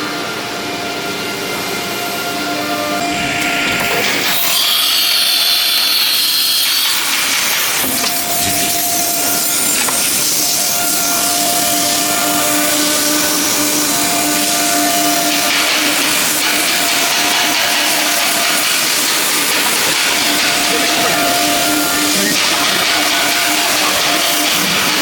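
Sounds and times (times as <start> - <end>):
spindle whine: 0.0 - 25.0
router hissing cut into wood: 3.0 - 25.0.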